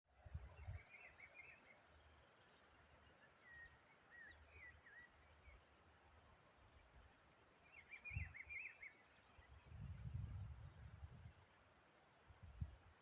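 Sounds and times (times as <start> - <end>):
faint songbird song: 0.1 - 13.0.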